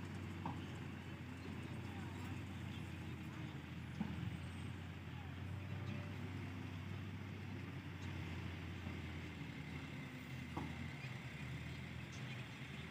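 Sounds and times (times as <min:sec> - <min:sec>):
heavy diesel engines humming: 0:00.0 - 0:12.9.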